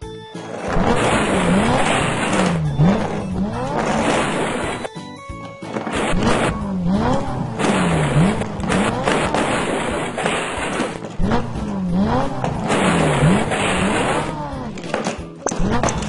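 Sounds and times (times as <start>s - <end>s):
engine revving: 0.5s - 4.9s, 5.7s - 16.0s
tyre screech: 0.5s - 4.9s, 5.7s - 16.0s.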